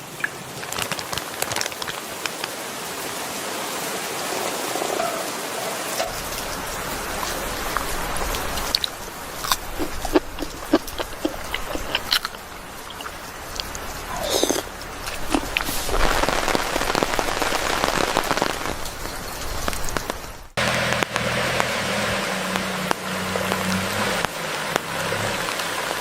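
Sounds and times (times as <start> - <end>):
raindrops tapping on a surface: 0.0 - 3.1, 4.4 - 14.0, 14.6 - 26.0
rain falling steadily: 0.0 - 26.0.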